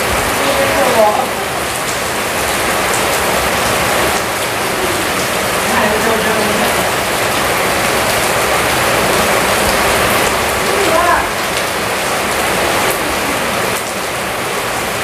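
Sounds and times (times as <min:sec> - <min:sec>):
heavy rain on concrete: 0:00.0 - 0:15.0.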